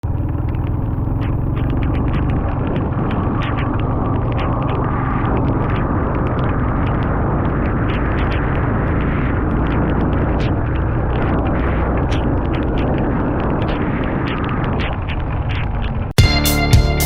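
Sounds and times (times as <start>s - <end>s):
motorcycle engine humming: 0.0s - 17.0s
sharp ticks: 0.0s - 17.0s
wind and road noise: 0.0s - 17.0s.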